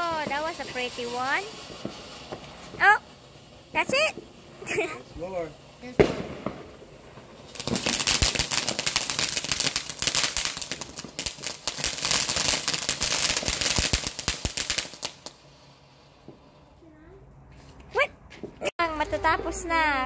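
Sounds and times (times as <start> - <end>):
firework crackling and popping: 0.0 - 16.8.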